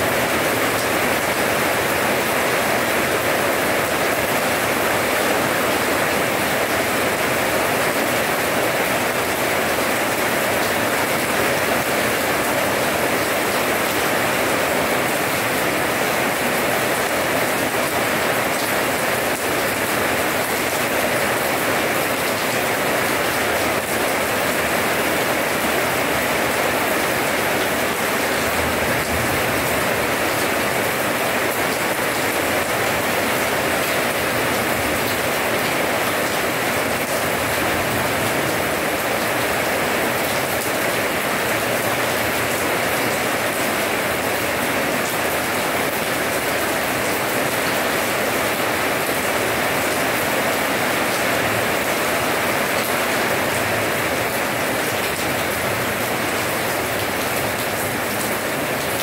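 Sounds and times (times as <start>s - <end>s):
rain splashing on paving: 0.0s - 59.0s.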